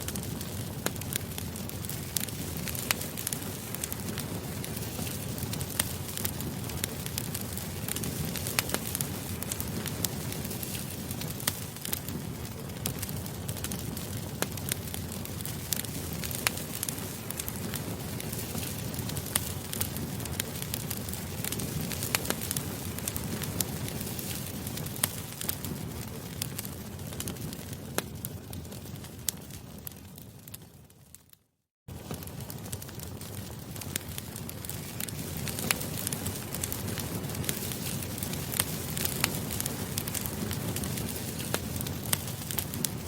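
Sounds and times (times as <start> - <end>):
campfire rumble: 0.0 - 31.3, 31.9 - 43.0
logs crackling and popping: 0.0 - 43.0
wood fire burning: 0.0 - 43.0.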